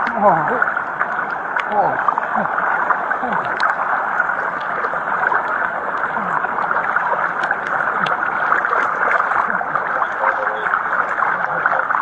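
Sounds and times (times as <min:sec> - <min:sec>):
floodwater rushing: 0:00.0 - 0:12.0
heavy rain: 0:01.6 - 0:12.0.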